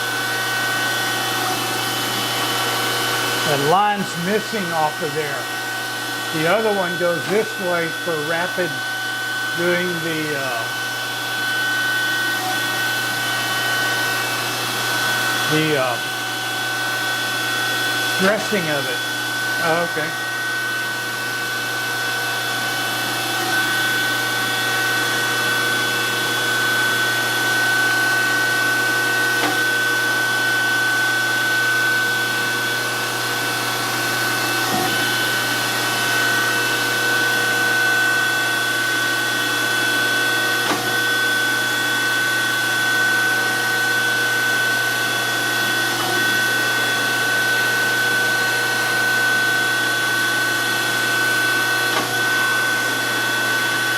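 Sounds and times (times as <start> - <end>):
surface grinder whining: 0.0 - 53.9.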